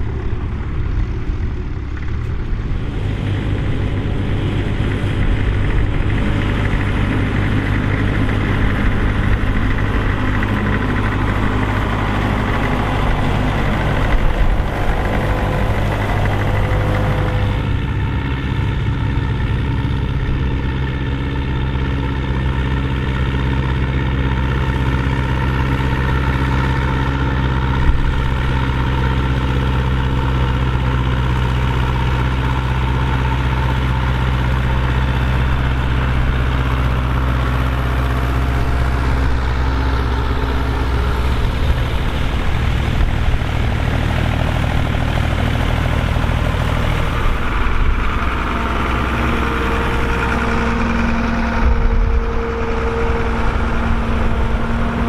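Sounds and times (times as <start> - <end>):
diesel tractor engines under load: 0.0 - 55.0.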